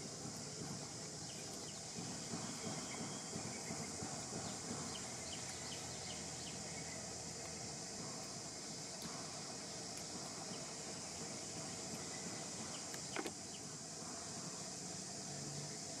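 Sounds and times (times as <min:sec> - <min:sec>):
high hiss: 0:00.0 - 0:16.0.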